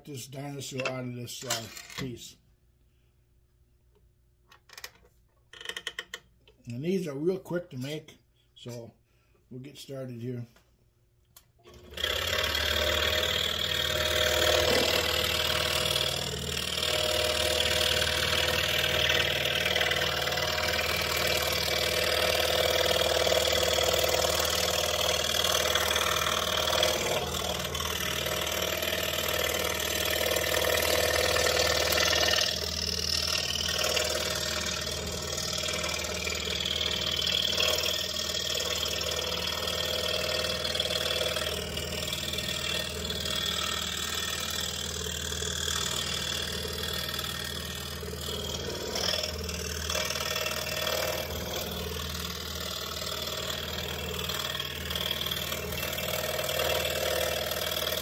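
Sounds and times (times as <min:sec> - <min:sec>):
scroll saw cutting wood: 0:00.3 - 0:02.2, 0:11.6 - 0:58.0.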